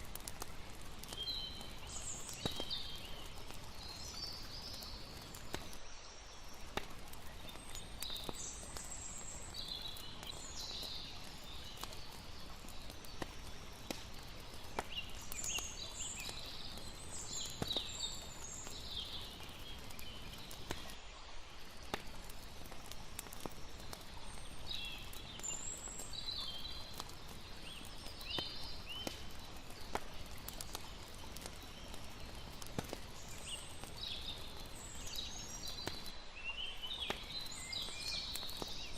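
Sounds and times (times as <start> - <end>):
campfire crackling: 0.0 - 38.9
soft hiss of water: 0.0 - 38.9.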